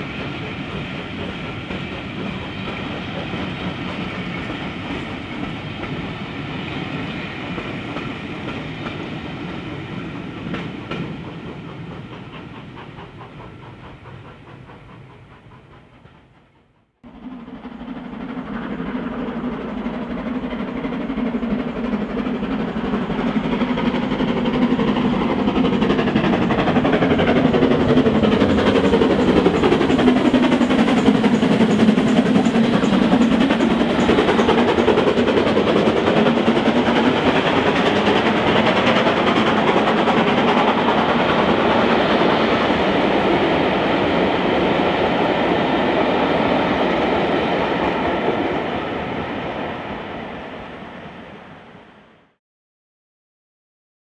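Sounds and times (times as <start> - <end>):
steam locomotive passing: 0.0 - 52.4.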